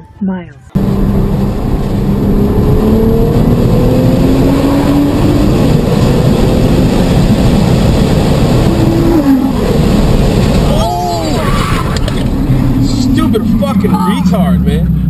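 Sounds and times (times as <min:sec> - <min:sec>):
road and wind noise: 0:00.0 - 0:15.0
car engine accelerating: 0:00.7 - 0:15.0.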